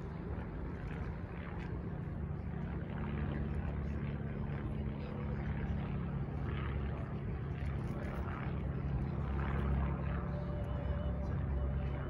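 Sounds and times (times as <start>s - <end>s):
low engine hum: 0.0s - 12.0s
open-air background noise: 0.0s - 12.0s.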